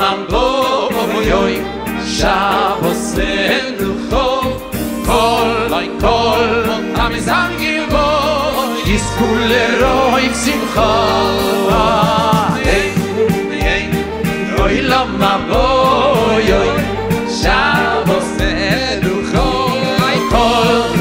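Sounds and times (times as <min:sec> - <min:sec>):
band playing: 0:00.0 - 0:21.0
person singing with vibrato: 0:00.0 - 0:21.0
bass line: 0:01.2 - 0:21.0
drums beat: 0:02.2 - 0:21.0.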